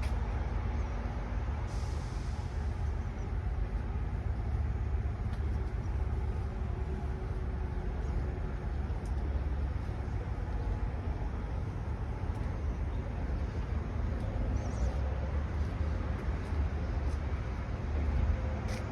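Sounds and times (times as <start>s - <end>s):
truck diesel engine rumbling: 0.0s - 18.9s.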